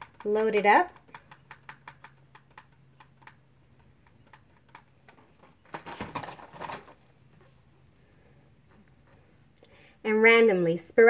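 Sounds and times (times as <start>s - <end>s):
clicking and rustling: 0.0s - 9.3s.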